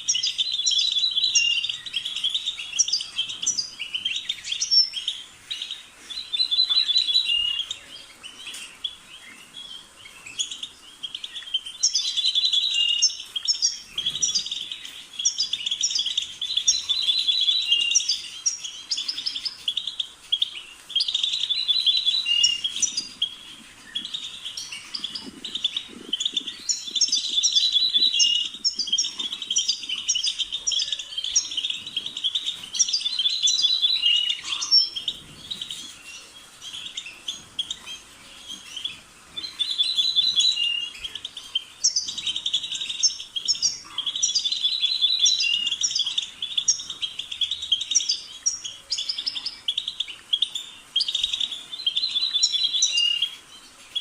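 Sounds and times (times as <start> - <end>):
finch twittering song: 0.0 - 54.0.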